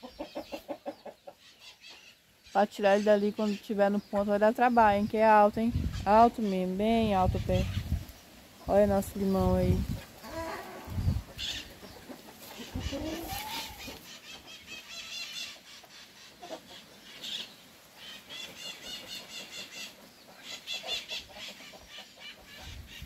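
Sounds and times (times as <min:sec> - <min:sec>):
chickens clucking: 0:00.0 - 0:23.0
small birds chirping: 0:00.0 - 0:23.0.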